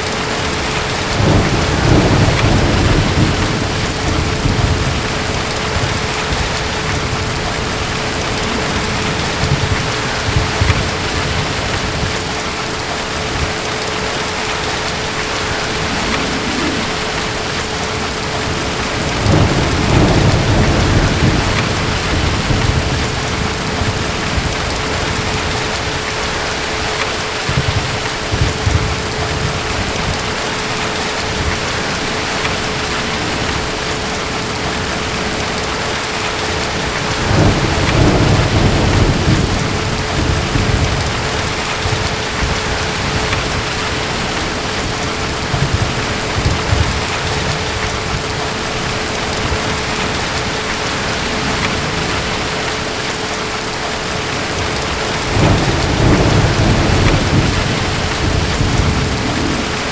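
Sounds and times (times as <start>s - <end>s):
distant thunder rumbling: 0.0s - 59.9s
heavy rain: 0.0s - 59.9s.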